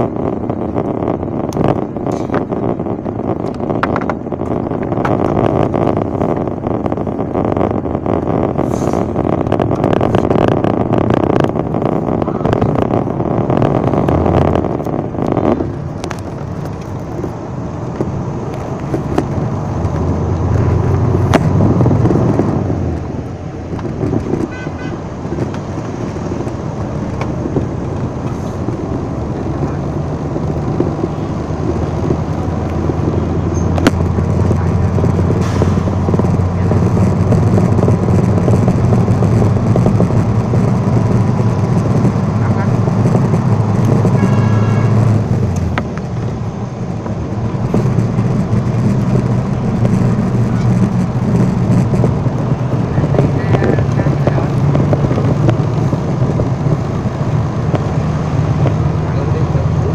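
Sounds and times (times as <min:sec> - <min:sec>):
motorbikes and scooters riding: 0:00.0 - 0:59.9
vehicle road and engine noise: 0:00.0 - 0:59.9.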